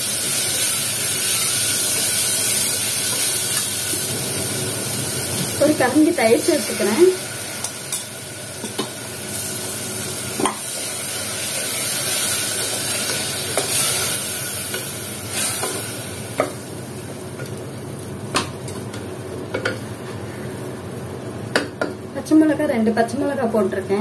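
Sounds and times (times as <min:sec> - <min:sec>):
sauce sizzling in a pot: 0:00.0 - 0:24.0.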